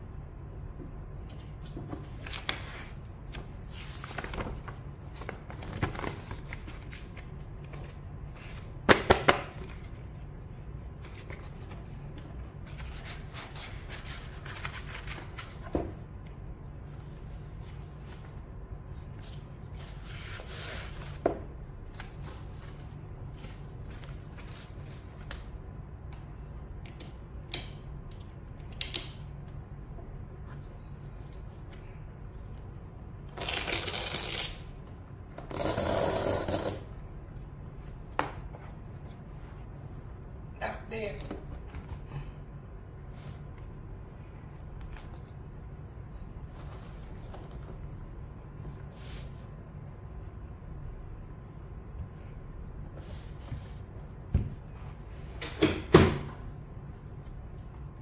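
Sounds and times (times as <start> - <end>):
low background hum: 0.0 - 58.0.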